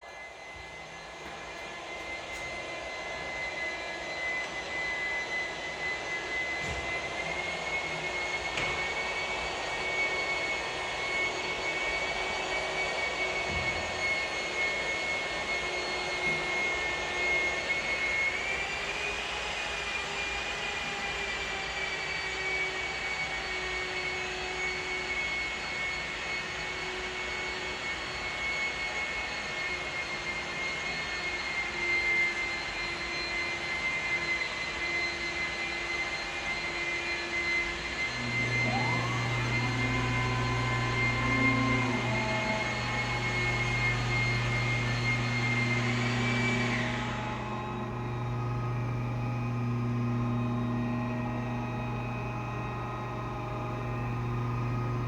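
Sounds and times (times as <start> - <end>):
electric polisher whining: 0.0 - 55.0.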